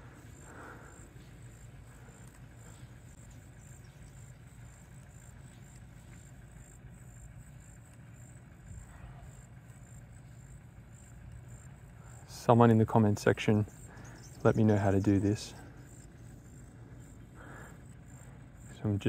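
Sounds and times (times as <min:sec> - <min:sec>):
insect chirping: 0:00.0 - 0:19.0
low constant rumble: 0:00.0 - 0:19.0.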